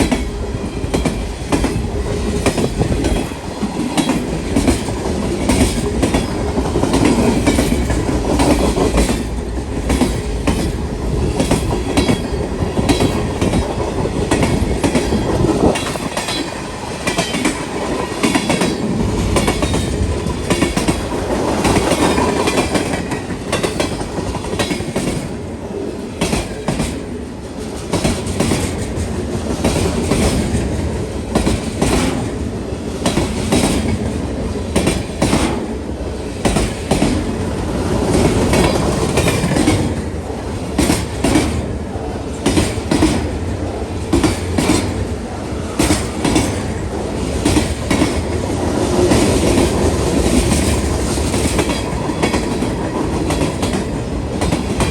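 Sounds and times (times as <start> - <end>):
freight train rumbling past: 0.0 - 54.9
train wheels clicking over rail joints: 0.0 - 54.9.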